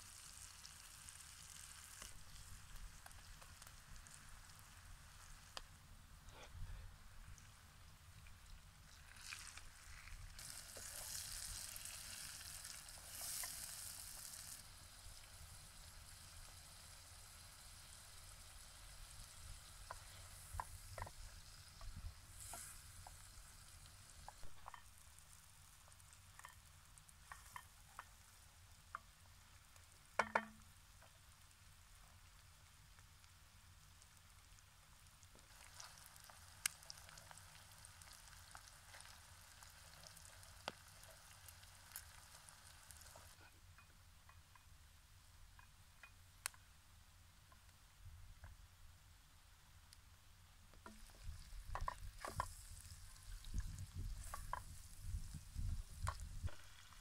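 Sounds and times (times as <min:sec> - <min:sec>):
potatoes sizzling in pot: 0:00.0 - 0:05.8, 0:07.2 - 0:44.6, 0:50.8 - 0:57.0.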